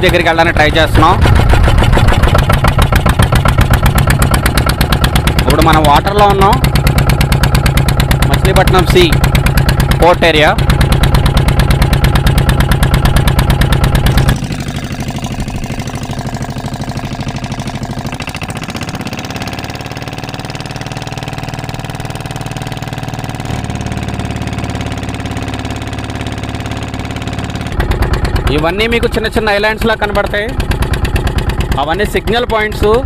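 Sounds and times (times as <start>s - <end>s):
boat engine chugging: 0.0s - 33.0s.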